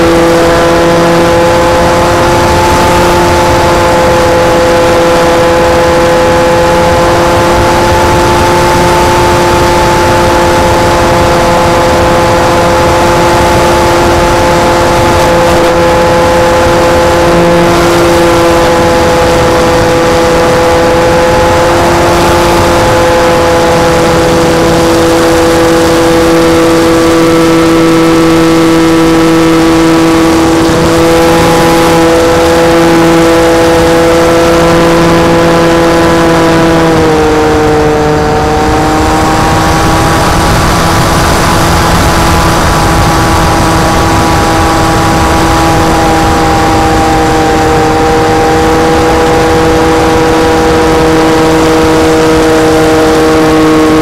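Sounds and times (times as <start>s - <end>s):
electric model plane motor whine: 0.0s - 54.0s
wind rushing over microphone: 0.0s - 54.0s.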